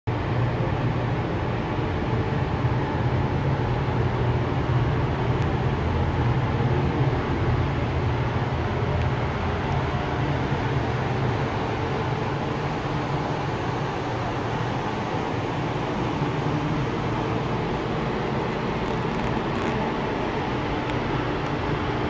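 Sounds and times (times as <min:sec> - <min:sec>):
ventilation fans humming: 0:00.1 - 0:22.0.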